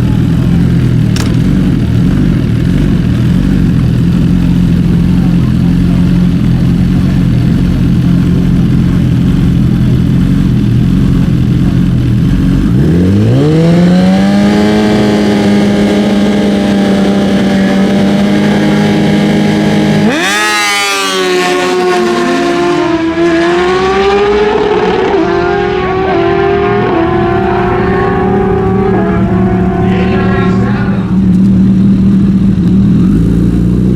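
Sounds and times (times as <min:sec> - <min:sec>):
motorcycle engines revving: 0:00.0 - 0:33.9.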